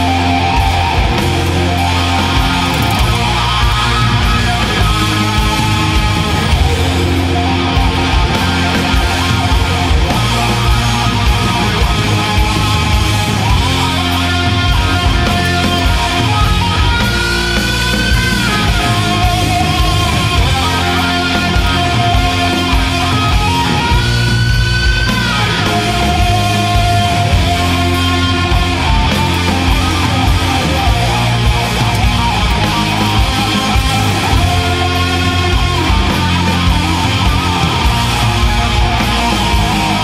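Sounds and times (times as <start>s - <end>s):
heavy rock music with electric guitar: 0.0s - 40.0s.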